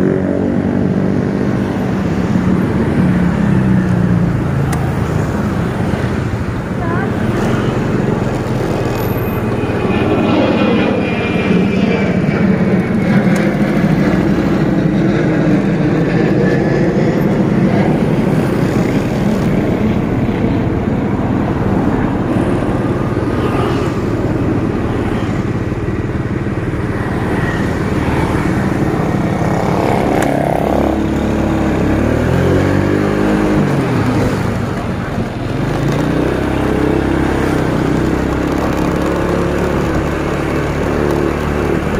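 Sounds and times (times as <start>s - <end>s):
motorcycle engine running: 0.0s - 41.9s
road noise: 0.0s - 41.9s.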